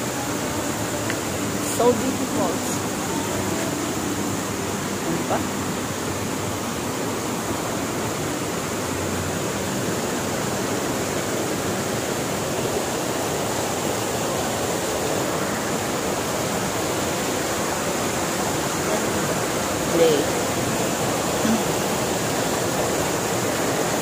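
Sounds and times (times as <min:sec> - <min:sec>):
mountain stream rushing over rocks: 0:00.0 - 0:24.0.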